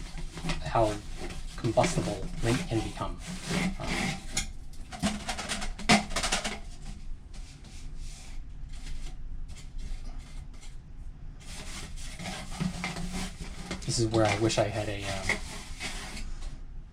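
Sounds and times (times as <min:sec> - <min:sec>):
scraping in vent duct: 0:00.0 - 0:10.8, 0:11.4 - 0:16.6.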